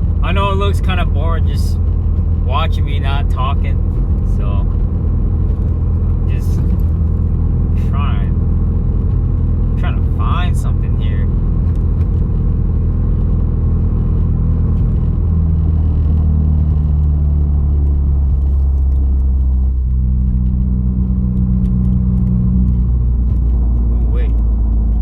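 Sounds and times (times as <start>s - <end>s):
car engine drone in cabin: 0.0s - 25.0s
road noise: 0.0s - 25.0s.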